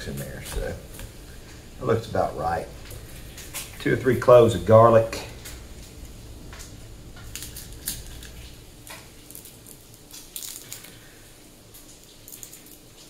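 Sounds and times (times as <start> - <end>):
garlic skin crackling: 0.0 - 13.0.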